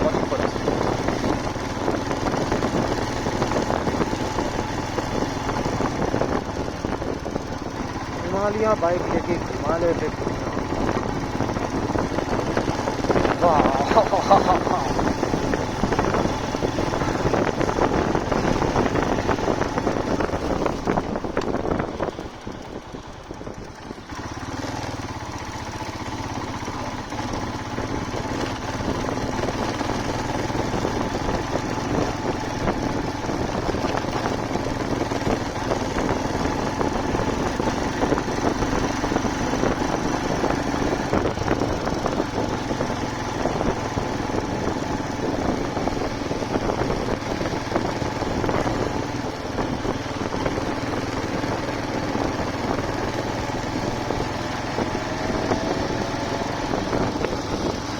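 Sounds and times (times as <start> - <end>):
motorcycle engine running: 0.0 - 57.9
wind and road noise: 0.0 - 57.9.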